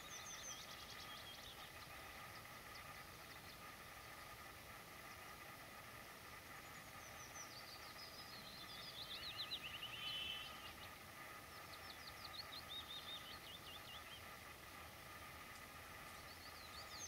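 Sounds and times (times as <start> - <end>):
faint steady hum and hiss: 0.0 - 17.0
songbird singing: 0.0 - 17.0.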